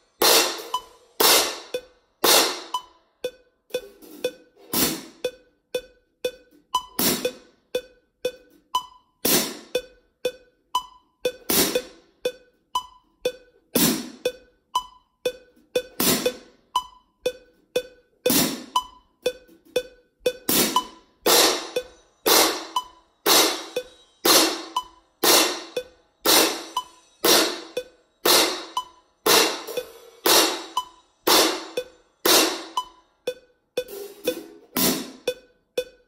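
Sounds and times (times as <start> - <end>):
metronome ticking: 0.0 - 36.0.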